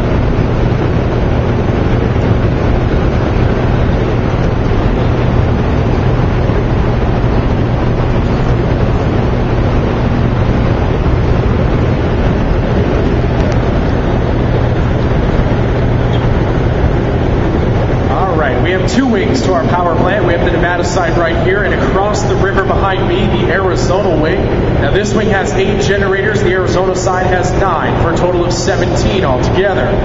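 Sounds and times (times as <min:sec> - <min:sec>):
generators humming and roaring: 0:00.0 - 0:30.0.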